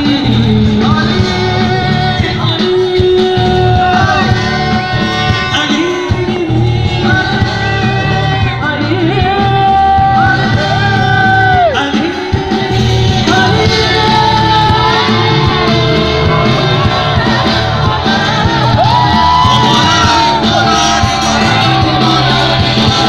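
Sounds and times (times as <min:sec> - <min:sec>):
live band and singers: 0:00.0 - 0:23.0.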